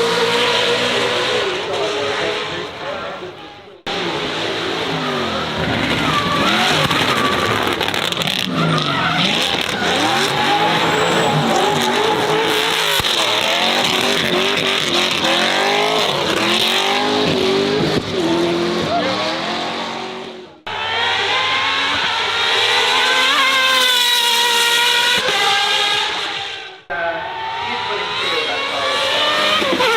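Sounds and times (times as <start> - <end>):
car engines revving: 0.0 - 29.9
high-pitched engine climbing: 0.0 - 29.9.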